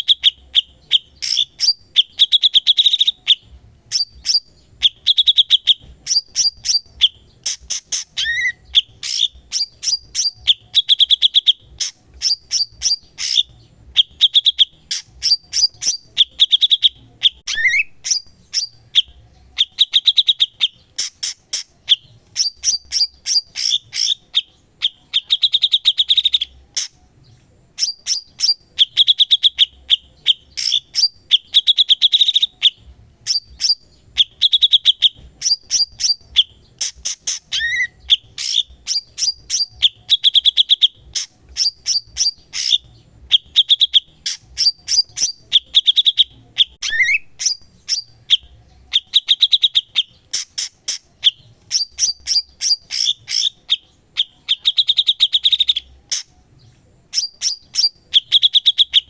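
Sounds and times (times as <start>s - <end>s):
bird singing with trills: 0.0s - 59.0s.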